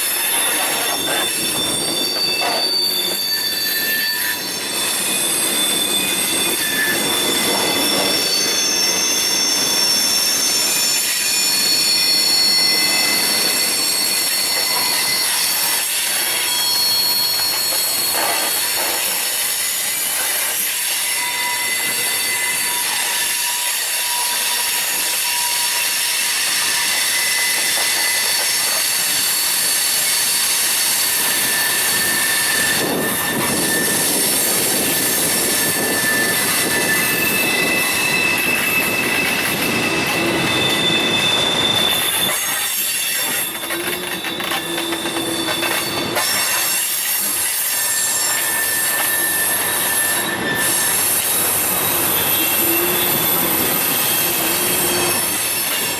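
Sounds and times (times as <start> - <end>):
rumble of wheels on track: 0.0 - 55.9
train wheels squealing on rails: 0.0 - 55.9.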